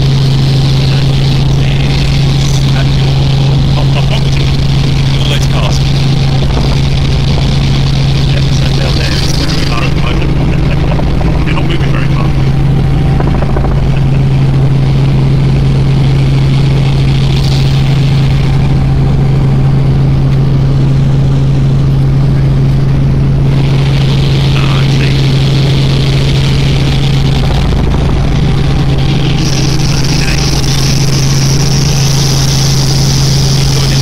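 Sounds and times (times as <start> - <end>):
helicopter rotor and engine drone: 0.0 - 34.0.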